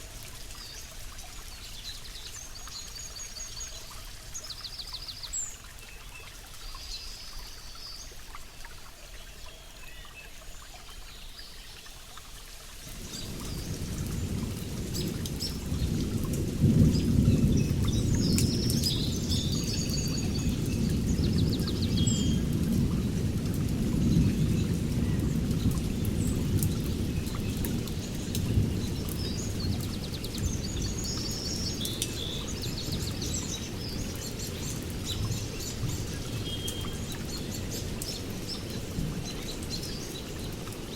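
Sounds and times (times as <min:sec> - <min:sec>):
rain falling in forest: 0:00.0 - 0:40.9.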